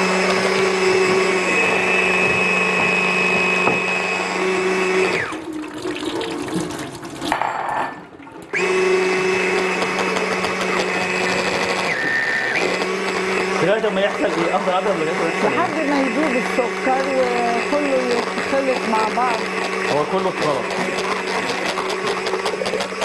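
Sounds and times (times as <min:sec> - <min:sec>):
electric mixer motor whine: 0:00.0 - 0:05.6, 0:08.5 - 0:23.0.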